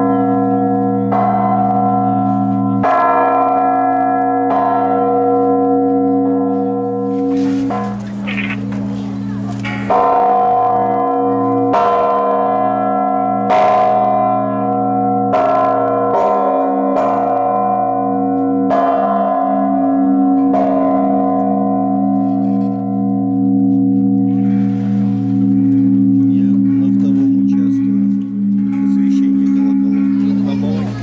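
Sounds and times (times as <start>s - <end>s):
large church bell ringing: 0.0s - 31.0s.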